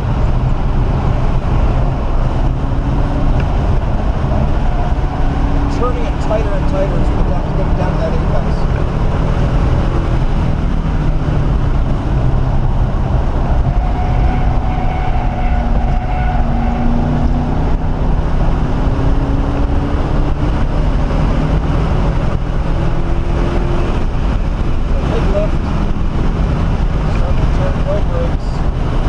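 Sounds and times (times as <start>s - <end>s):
car engine accelerating hard: 0.0s - 29.0s
road and wind noise: 0.0s - 29.0s.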